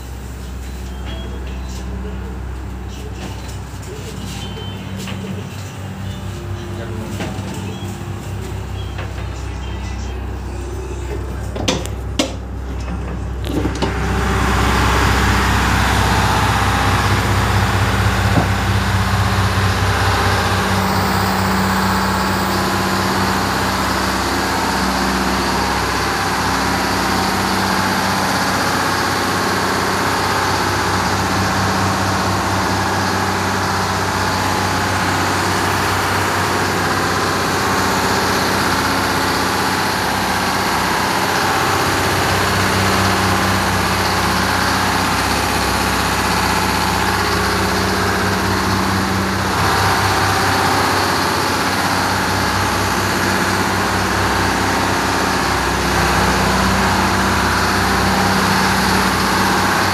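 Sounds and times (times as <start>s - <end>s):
diesel generator engines droning: 0.0s - 59.9s.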